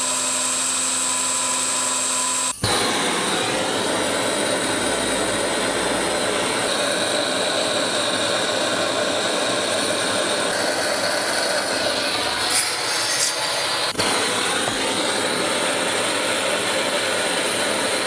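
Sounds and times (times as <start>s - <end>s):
blowtorch hissing: 2.2s - 18.0s.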